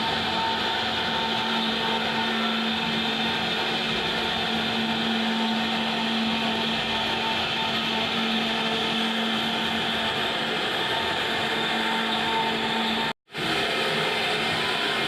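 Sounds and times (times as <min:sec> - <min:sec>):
router spindle motor whine: 0:00.0 - 0:15.0.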